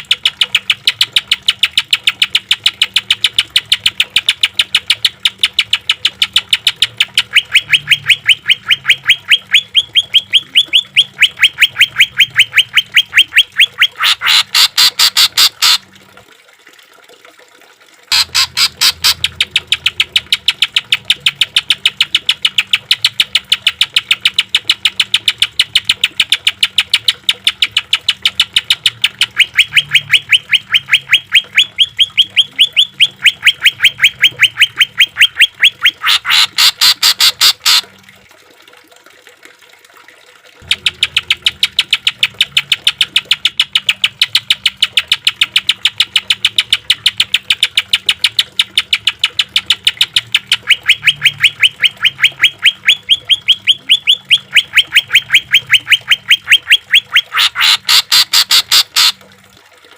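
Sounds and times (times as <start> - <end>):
bird singing rapid repeated notes: 0.0 - 15.8, 18.1 - 37.8, 40.6 - 59.2.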